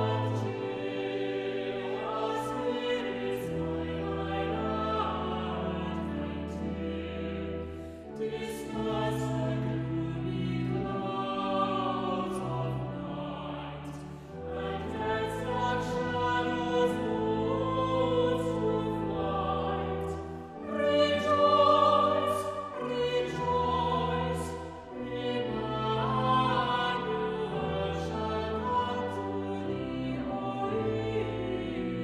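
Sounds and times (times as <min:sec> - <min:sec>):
choir singing: 0:00.0 - 0:32.0.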